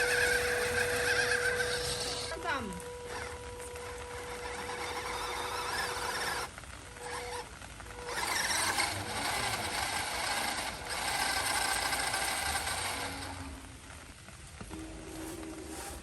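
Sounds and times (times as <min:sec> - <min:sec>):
toy truck electric motor whir: 0:00.0 - 0:14.0, 0:14.6 - 0:16.0.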